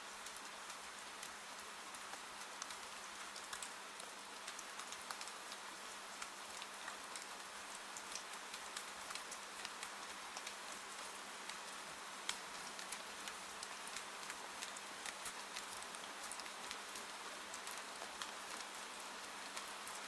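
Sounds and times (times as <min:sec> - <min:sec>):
rain on a window: 0:00.0 - 0:20.0.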